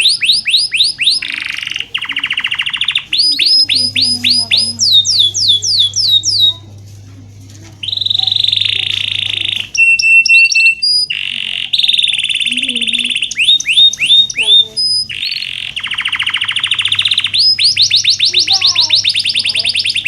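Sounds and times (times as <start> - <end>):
canary singing: 0.0 - 20.0.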